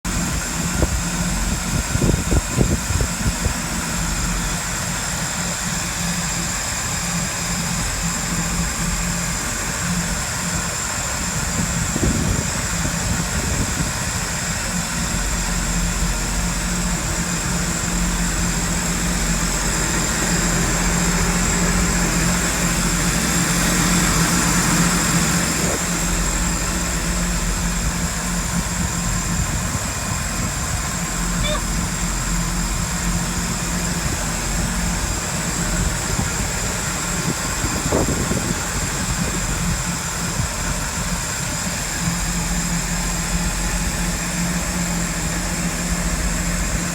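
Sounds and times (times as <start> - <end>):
vehicle engine idling: 0.1 - 46.9.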